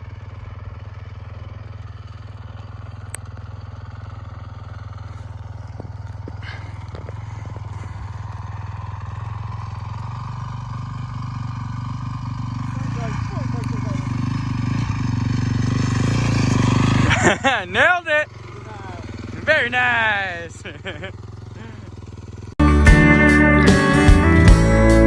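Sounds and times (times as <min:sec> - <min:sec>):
dirt bike engine running: 0:00.0 - 0:22.6.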